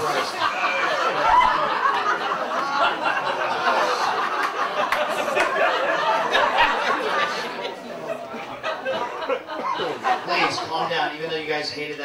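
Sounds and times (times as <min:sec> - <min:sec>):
audience laughing and reacting: 0:00.0 - 0:12.0.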